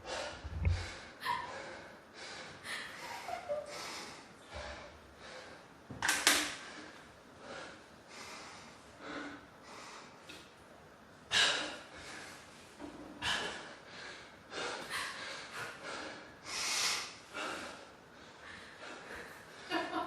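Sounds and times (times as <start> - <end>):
man breathing hard and gasping: 0.0 - 5.7, 6.5 - 10.4, 13.2 - 19.7.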